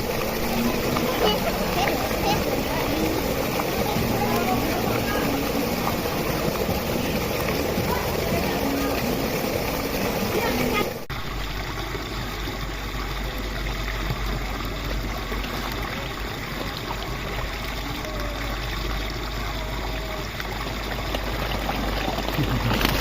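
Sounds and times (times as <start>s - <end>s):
stream water trickling: 0.0s - 23.0s.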